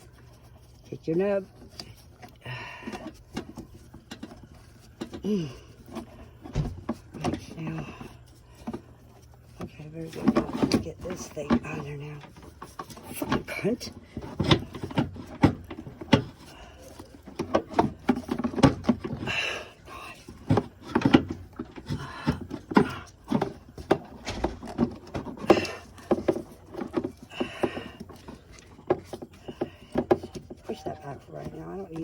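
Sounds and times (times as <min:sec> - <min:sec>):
car parts clicking and knocking: 0:02.7 - 0:32.0.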